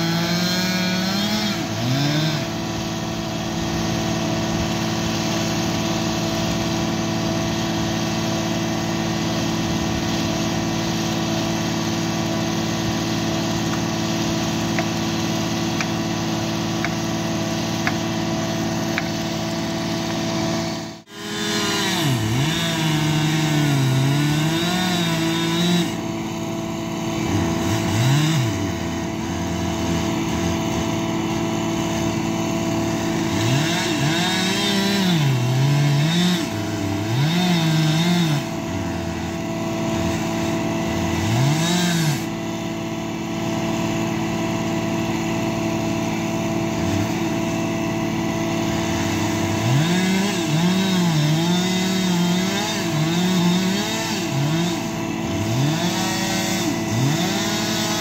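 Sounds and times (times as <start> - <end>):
chainsaw cutting tree trunk: 0.0 - 58.0
heavy loader engine running: 1.6 - 35.8, 42.2 - 58.0.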